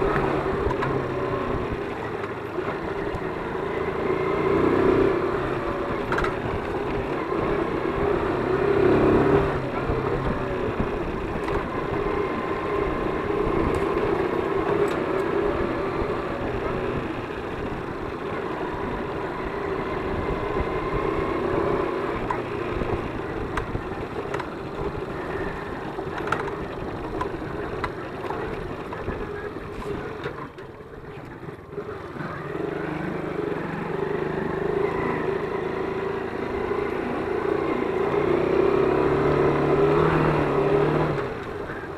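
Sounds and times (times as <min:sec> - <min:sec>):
moped engine running: 0:00.0 - 0:41.9.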